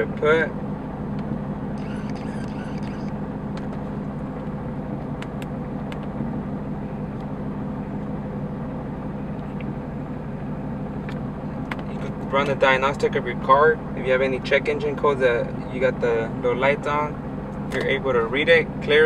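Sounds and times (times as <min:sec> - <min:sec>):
car engine hum from inside: 0:00.0 - 0:19.0.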